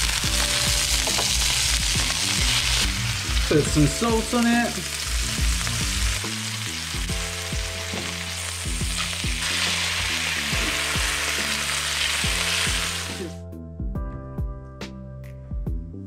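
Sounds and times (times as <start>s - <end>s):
meat sizzling in a frying pan: 0.0s - 13.4s.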